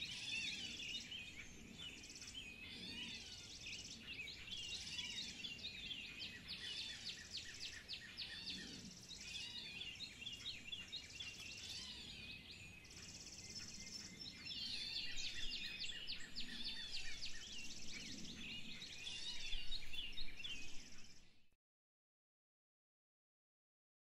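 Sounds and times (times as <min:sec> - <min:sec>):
birds chirping and singing: 0:00.0 - 0:21.5
faint outdoor background noise: 0:00.0 - 0:21.6.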